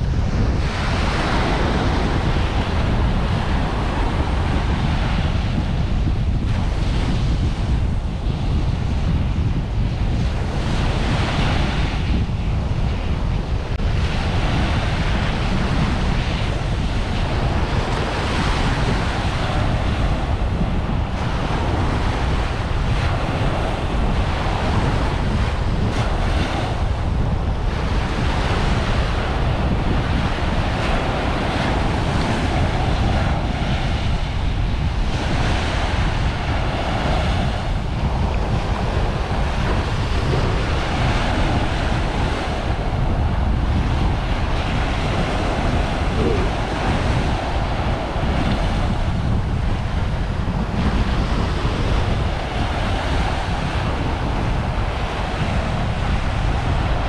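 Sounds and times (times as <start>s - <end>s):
wind buffeting microphone: 0.0s - 57.0s
small waves breaking on beach: 0.1s - 57.0s.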